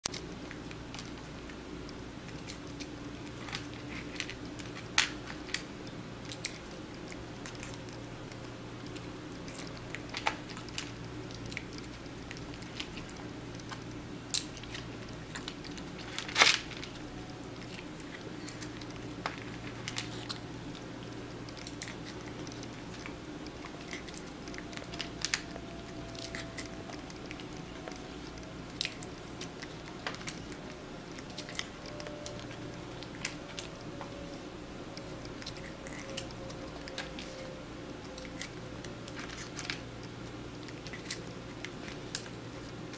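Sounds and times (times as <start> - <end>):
kitten crunching dry kibble: 0.0 - 42.9
low hum: 0.0 - 42.9.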